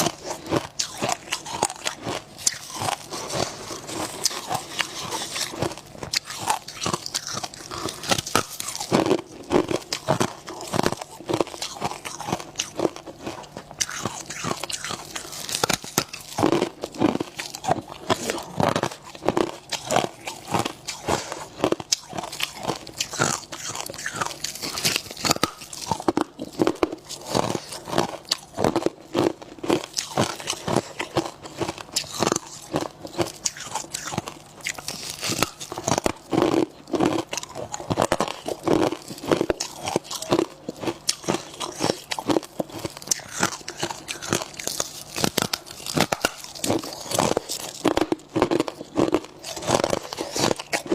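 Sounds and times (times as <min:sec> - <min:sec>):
chewing ice crunches: 0:00.0 - 0:50.9.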